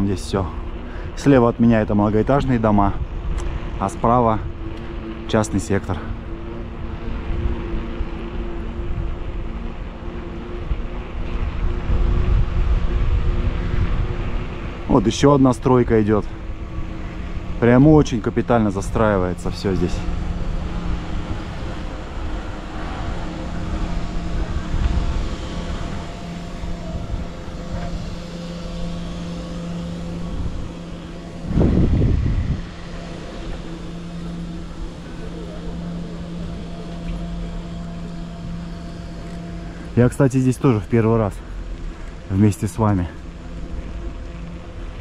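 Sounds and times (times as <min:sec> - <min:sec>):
bicycle rolling noise: 0:00.0 - 0:45.0
faint steady hum: 0:00.0 - 0:45.0
wind rumble on microphone: 0:00.0 - 0:45.0.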